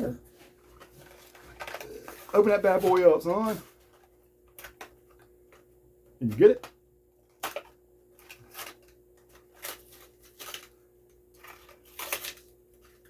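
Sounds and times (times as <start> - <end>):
plastic packaging crinkling and tearing: 0.5 - 5.3, 7.2 - 13.0.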